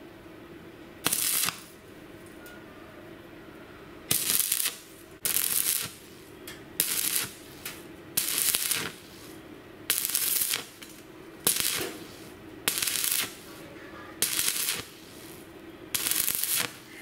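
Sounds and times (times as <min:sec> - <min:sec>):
welding arc crackling: 0:01.0 - 0:01.8, 0:04.1 - 0:17.0.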